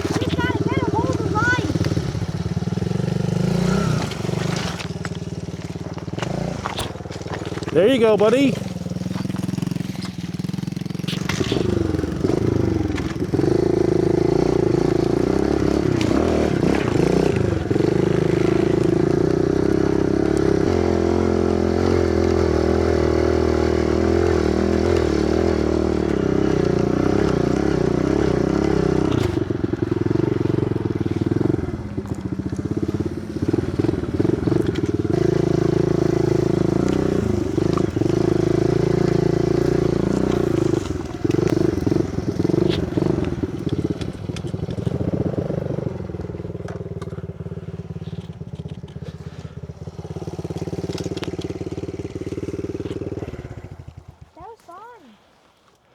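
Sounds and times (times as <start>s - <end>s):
small motorbike engine running: 0.0s - 55.1s.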